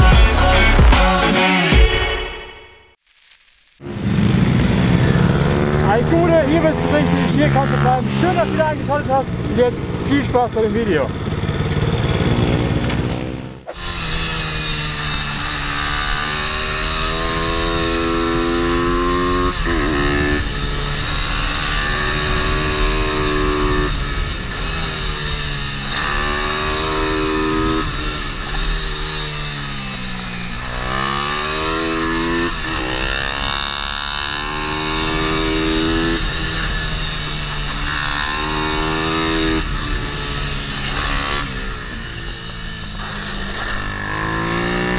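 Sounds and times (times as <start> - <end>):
pit bike engine revving: 3.8 - 44.9.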